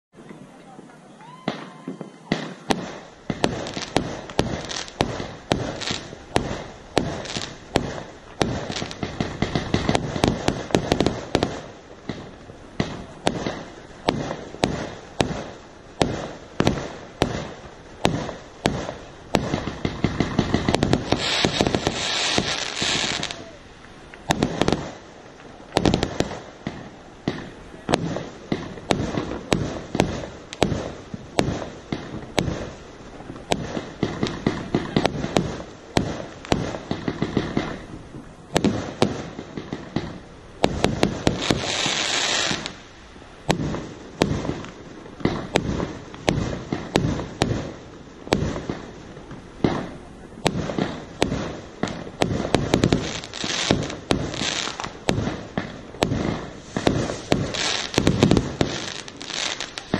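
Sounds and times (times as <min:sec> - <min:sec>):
fireworks bangs: 0:00.1 - 0:59.9
loud hiss: 0:01.2 - 0:59.9.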